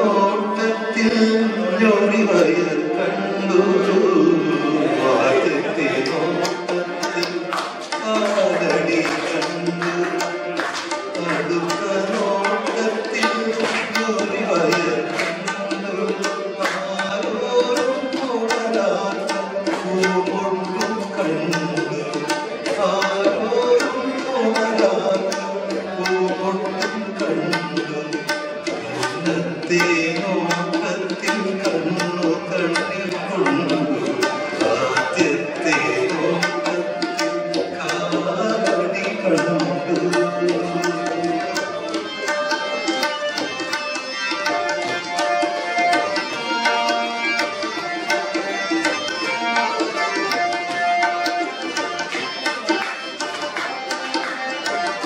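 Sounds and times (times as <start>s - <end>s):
harmonium playing sustained tones: 0.0s - 55.0s.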